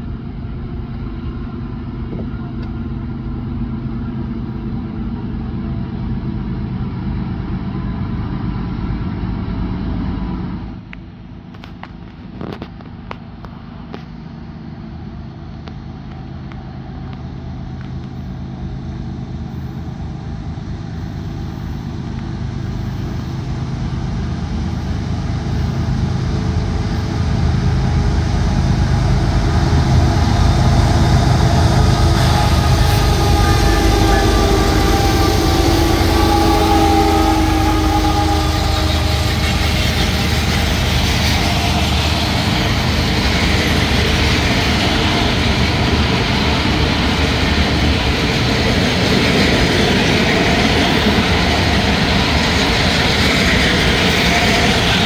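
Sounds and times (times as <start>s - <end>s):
locomotive engine drone: 0.0s - 55.0s
wheels rumbling on rails: 0.0s - 55.0s.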